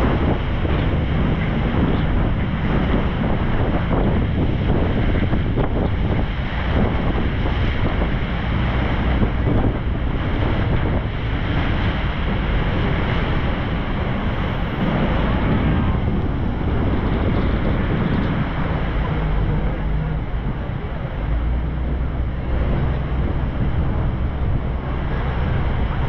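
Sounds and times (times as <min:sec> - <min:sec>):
boat engine running: 0:00.0 - 0:26.0
water rushing along hull: 0:00.0 - 0:26.0
wind buffeting microphone: 0:00.0 - 0:26.0.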